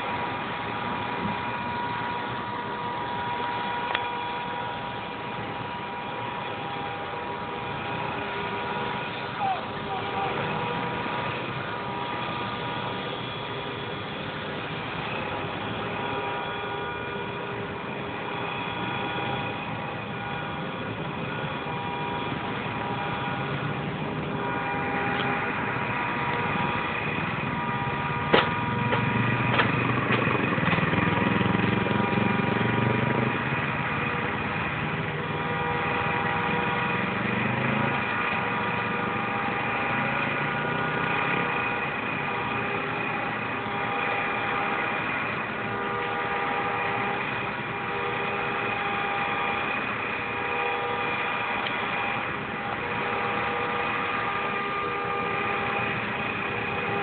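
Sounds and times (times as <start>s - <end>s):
passing vehicle rumble: 0.0s - 57.0s
steady engine hum: 0.0s - 57.0s.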